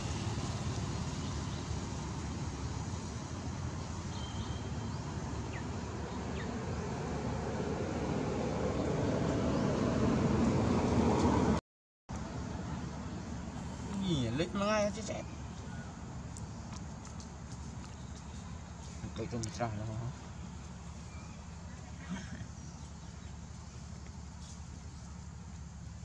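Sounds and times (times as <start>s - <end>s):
outdoor background rumble: 0.0s - 26.0s.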